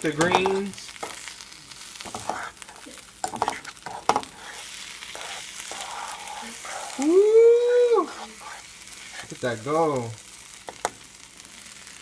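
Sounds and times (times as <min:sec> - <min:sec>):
spinach sizzling in a pan: 0:00.0 - 0:12.0.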